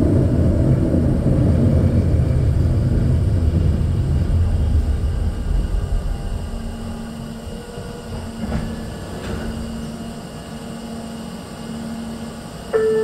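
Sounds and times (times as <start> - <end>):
standing train hum: 0.0 - 13.0
train rumble: 0.0 - 13.0.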